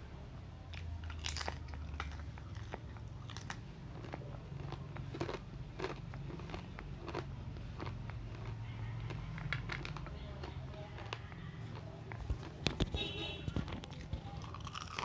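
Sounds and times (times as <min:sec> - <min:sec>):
chewing crunchy fried food: 0:00.7 - 0:15.0.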